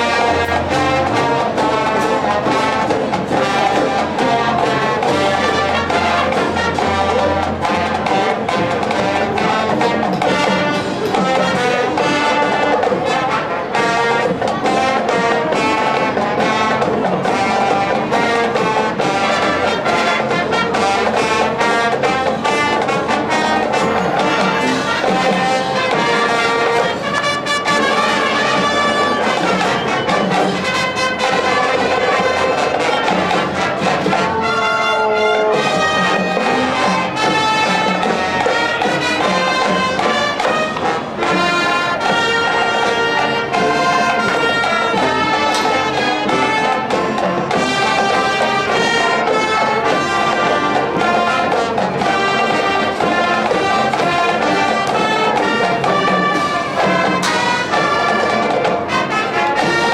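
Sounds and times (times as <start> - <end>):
marching band playing: 0.0 - 59.9.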